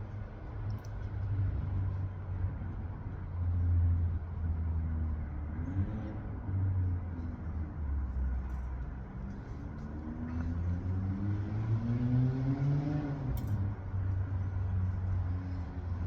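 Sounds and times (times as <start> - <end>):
low motor-like rumble: 0.0 - 16.0.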